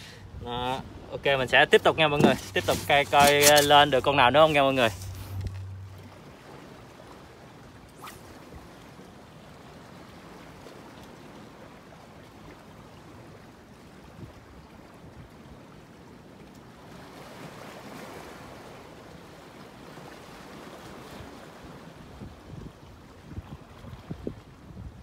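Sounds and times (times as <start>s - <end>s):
sea waves: 0.0s - 25.0s
wind: 0.0s - 25.0s.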